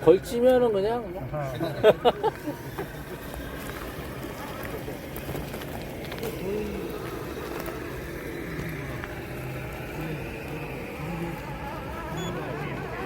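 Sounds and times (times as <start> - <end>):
rc car electric motor whining: 2.4 - 13.0.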